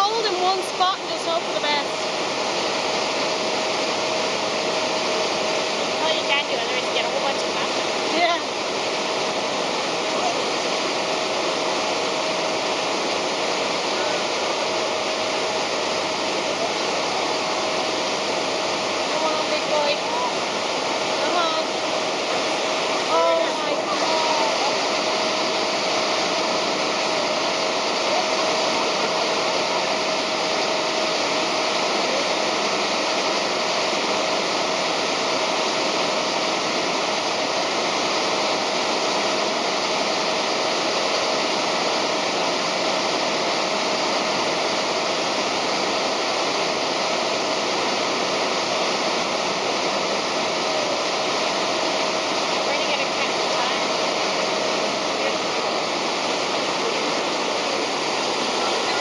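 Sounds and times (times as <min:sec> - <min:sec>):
boat engine running: 0:00.0 - 0:59.0
boat wake water churning: 0:00.0 - 0:59.0
faint steady whine: 0:00.0 - 0:59.0.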